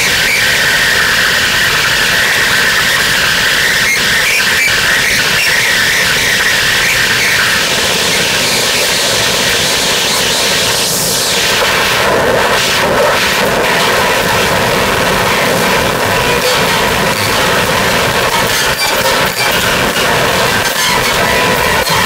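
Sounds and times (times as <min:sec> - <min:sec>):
harsh electronic noise: 0:00.0 - 0:22.0.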